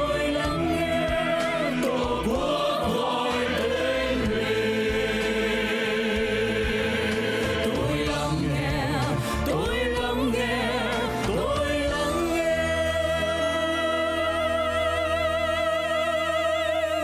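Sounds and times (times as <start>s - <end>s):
backing music: 0.0s - 17.0s
man and woman singing in harmony: 0.0s - 17.0s.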